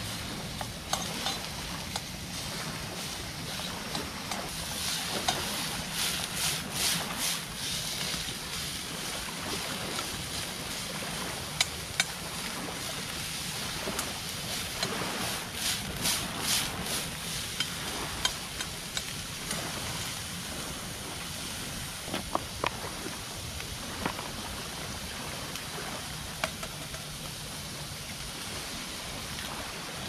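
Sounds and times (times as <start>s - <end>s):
moving water: 0.0s - 30.0s
wind: 0.0s - 30.0s.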